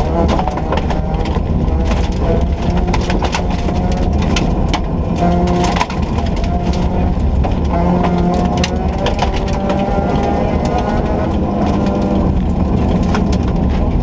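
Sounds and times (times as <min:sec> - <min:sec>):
gravel pinging against car: 0:00.0 - 0:14.0
rally car engine running hard: 0:00.0 - 0:14.0.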